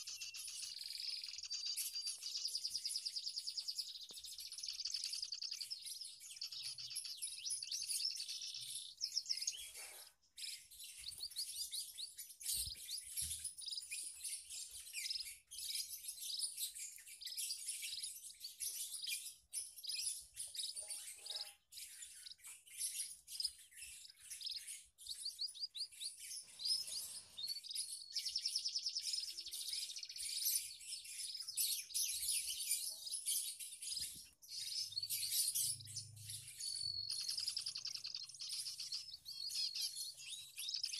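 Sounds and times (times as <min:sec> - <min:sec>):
finches chirping and trilling: 0:00.0 - 0:40.9.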